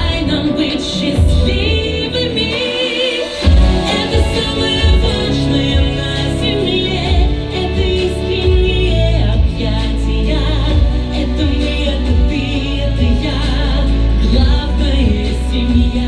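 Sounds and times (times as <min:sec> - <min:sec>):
singing voice with vibrato: 0:00.0 - 0:16.0.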